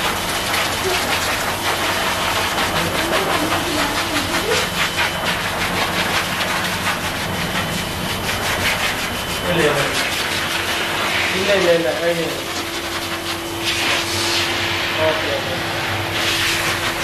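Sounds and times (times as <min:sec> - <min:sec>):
blower dryer air rushing: 0:00.0 - 0:17.0.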